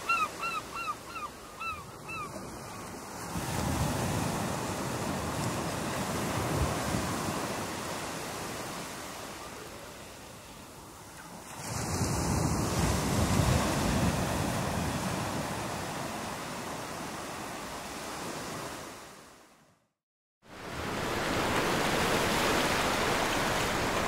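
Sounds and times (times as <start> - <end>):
ocean waves breaking: 0.0 - 19.3, 20.5 - 24.0.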